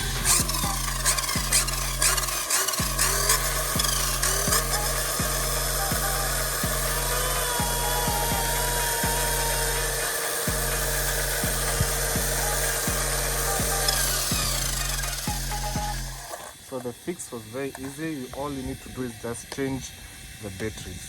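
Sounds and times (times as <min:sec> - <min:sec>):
rc car electric motor: 0:00.0 - 0:21.0.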